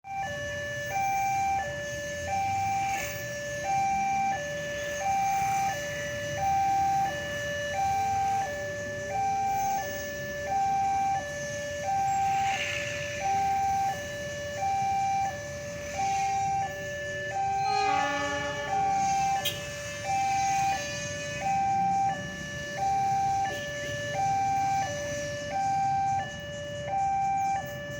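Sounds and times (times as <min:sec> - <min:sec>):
faint lower two-tone alarm: 0:00.0 - 0:27.9
two-tone level crossing alarm: 0:00.0 - 0:27.9.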